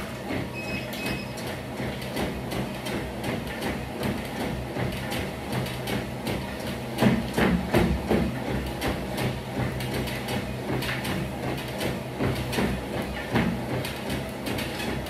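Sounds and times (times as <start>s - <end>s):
footsteps on treadmill belt: 0.0s - 15.0s
treadmill motor hum: 0.0s - 15.0s.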